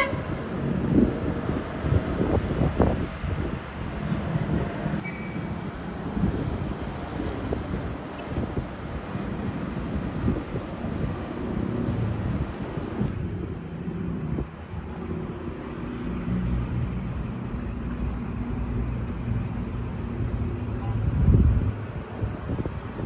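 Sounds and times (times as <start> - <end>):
vehicle engines rumbling: 0.0 - 23.0.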